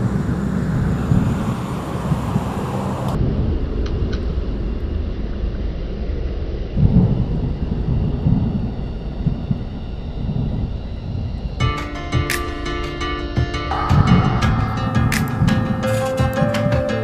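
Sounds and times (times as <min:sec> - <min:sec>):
low rumbling outdoor noise: 0:00.0 - 0:17.0.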